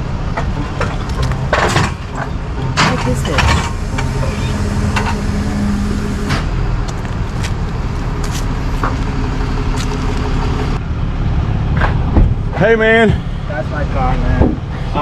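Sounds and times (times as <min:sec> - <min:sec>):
tow truck engine running: 0:00.0 - 0:15.0.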